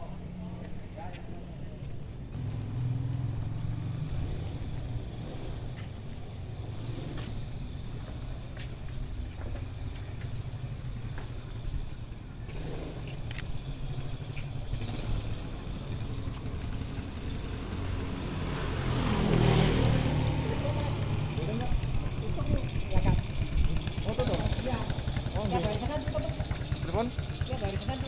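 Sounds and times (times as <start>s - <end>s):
motor vehicle passing: 0.0s - 28.0s
street traffic rumble: 0.0s - 28.0s.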